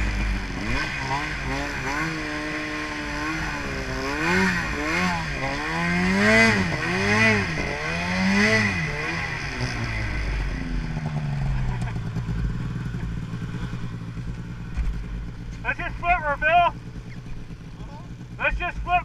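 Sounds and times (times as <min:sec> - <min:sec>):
snowmobile engine revving: 0:00.0 - 0:14.0, 0:15.6 - 0:19.0.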